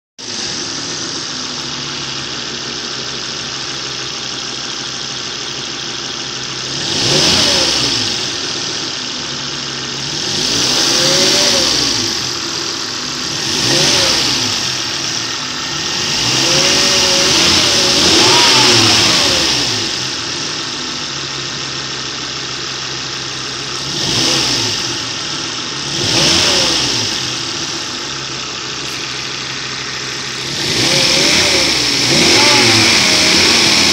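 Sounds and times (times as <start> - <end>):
car engine idling and revving: 0.2 - 33.9.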